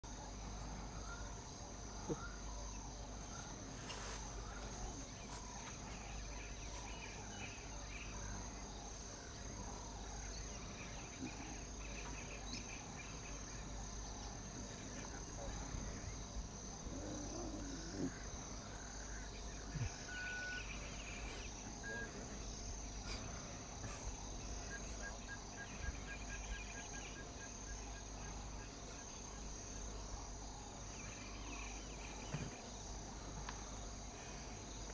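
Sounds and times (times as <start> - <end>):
insects chirring: 0.0 - 34.9.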